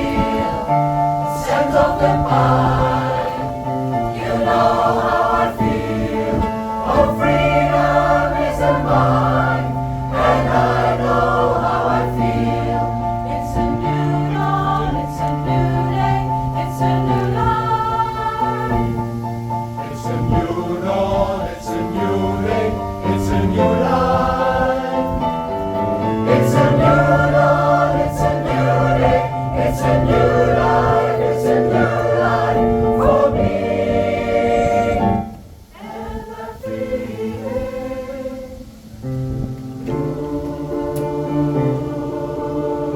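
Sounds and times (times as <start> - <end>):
pop choir singing in harmony: 0.0 - 42.9.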